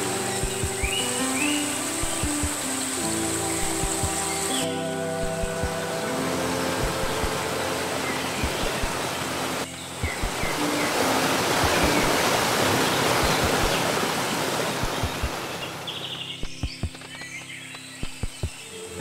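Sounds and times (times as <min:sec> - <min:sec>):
background music: 0:00.0 - 0:19.0
stream and small waterfall rushing: 0:00.0 - 0:19.0.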